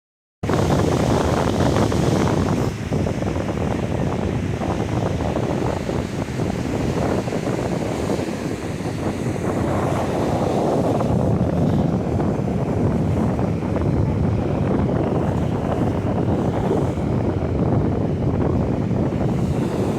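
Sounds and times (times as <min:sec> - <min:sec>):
wind buffeting microphone: 0:00.4 - 0:19.9
ocean surf rushing: 0:00.5 - 0:19.9.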